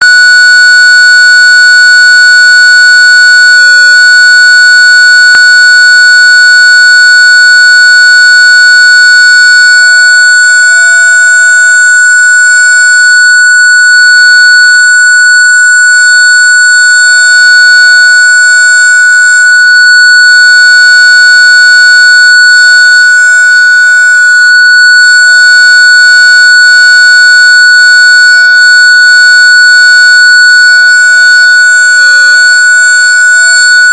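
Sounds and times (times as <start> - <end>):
high-pitched electronic beep tone: 0.4 - 10.1, 11.0 - 12.8, 13.4 - 33.9.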